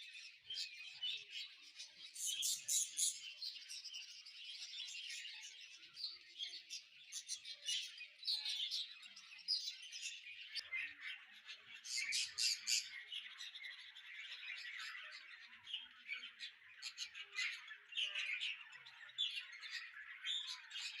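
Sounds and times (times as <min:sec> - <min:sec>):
flock of small birds chirping: 0:00.0 - 0:21.0.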